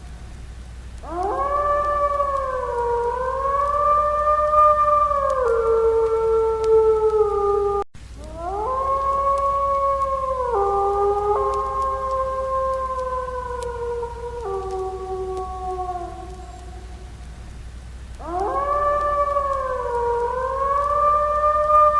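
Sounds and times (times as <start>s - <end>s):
wolves howling: 1.0s - 17.3s, 18.2s - 21.9s.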